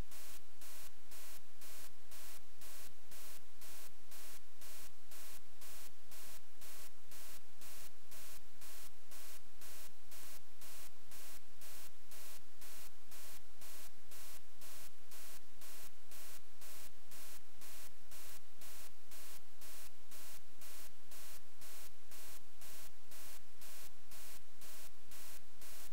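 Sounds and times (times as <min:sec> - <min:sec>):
pulsing electrical static hiss: 0:00.0 - 0:25.9.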